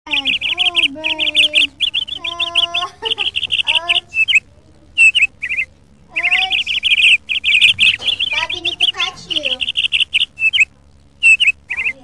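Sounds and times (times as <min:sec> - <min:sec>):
small bird chirping: 0:00.1 - 0:12.0.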